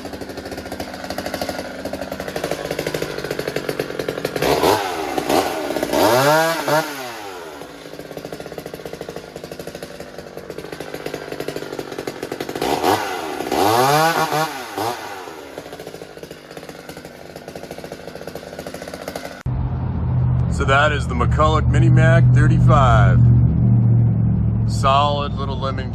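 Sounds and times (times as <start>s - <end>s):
chainsaw idling and revving: 0.0s - 19.5s, 21.0s - 23.2s, 24.7s - 25.9s.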